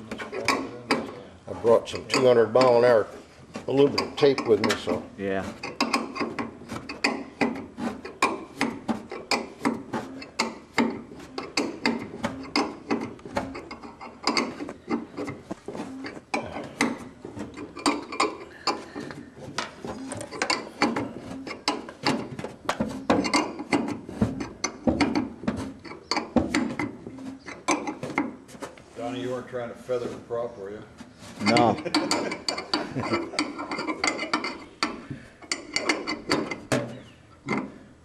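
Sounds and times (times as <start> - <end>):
rubbing: 0.0 - 37.8.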